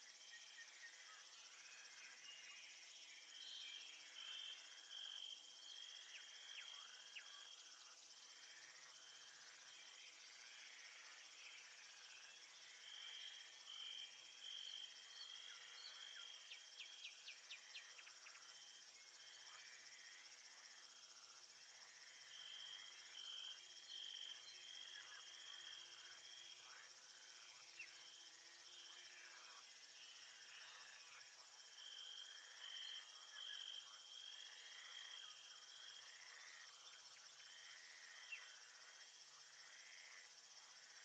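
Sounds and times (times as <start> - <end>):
crickets and insects chirping: 0.0 - 41.0
trilling cricket: 0.0 - 41.0.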